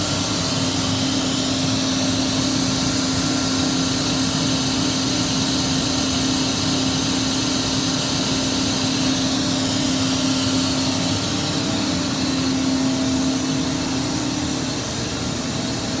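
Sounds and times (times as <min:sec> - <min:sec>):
boiler hissing: 0:00.0 - 0:15.3.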